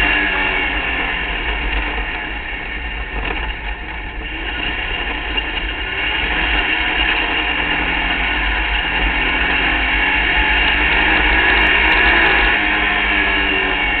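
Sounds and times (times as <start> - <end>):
race car engine running hard: 0.0 - 14.0
wind rumble on microphone: 0.0 - 14.0.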